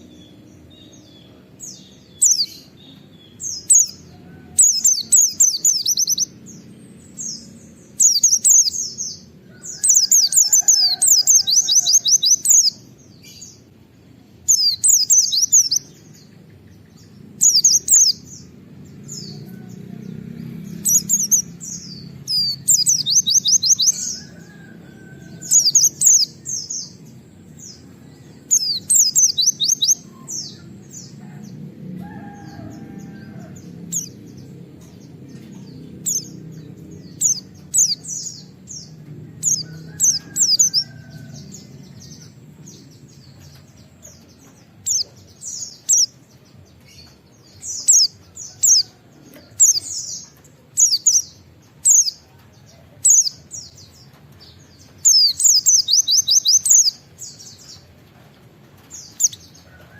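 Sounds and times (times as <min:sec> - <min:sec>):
low steady background noise: 0:00.0 - 0:59.9.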